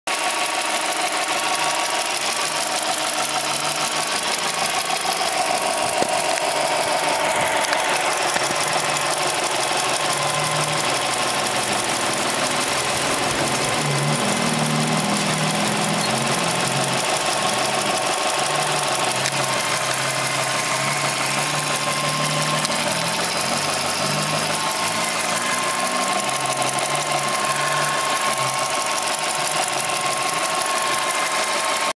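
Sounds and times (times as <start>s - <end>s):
car engine running: 0.1s - 31.9s
rapid engine knocking: 0.1s - 31.9s.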